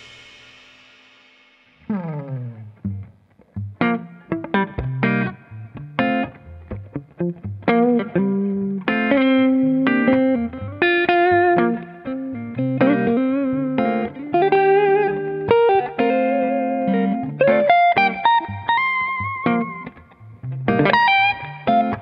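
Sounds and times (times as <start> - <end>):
electric guitar melody: 1.8 - 22.0.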